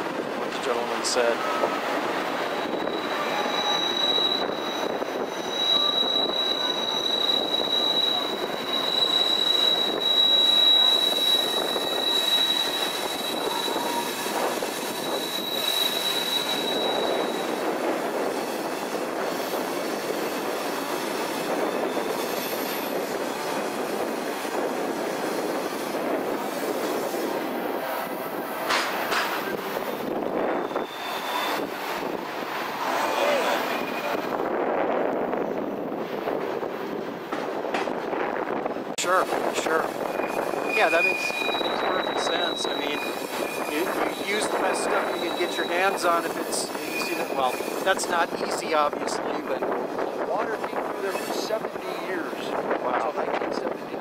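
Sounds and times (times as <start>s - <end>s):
train running noise: 0.0s - 54.0s
train wheels squealing on rails: 1.1s - 34.5s, 39.0s - 53.9s.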